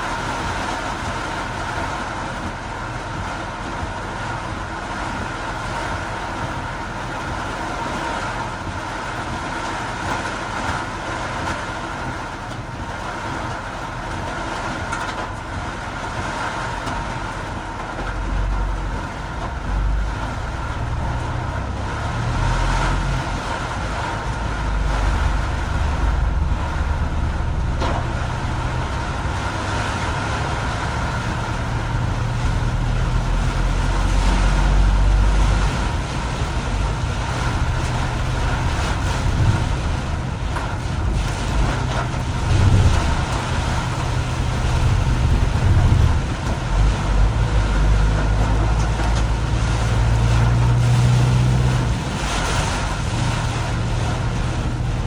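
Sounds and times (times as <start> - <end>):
deep vehicle rumble: 0.0 - 55.0
rain and tyres on wet road: 0.0 - 55.0.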